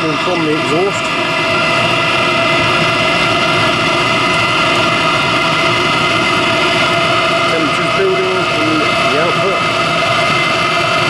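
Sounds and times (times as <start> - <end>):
air heater blower roaring: 0.0 - 11.0.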